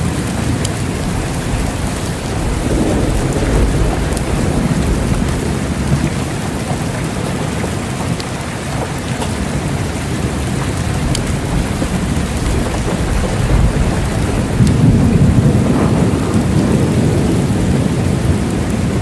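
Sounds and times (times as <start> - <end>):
distant thunder rumble: 0.0 - 19.0
heavy rain pattering: 0.0 - 19.0.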